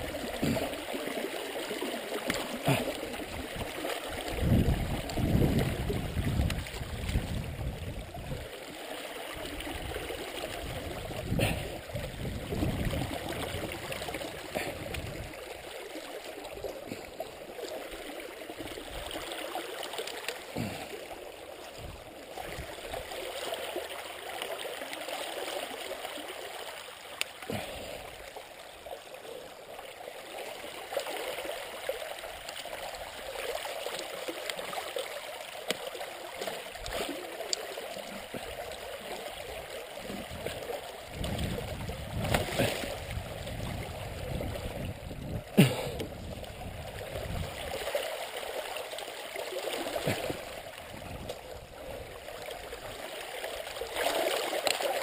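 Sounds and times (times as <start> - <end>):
creek water gurgling: 0.0 - 55.0.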